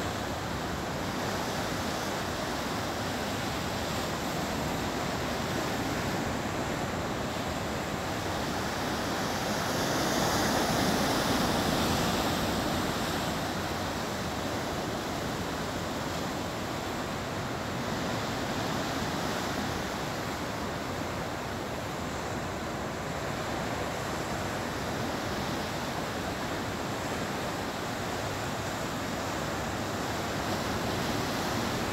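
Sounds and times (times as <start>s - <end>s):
ocean surf: 0.0s - 31.9s.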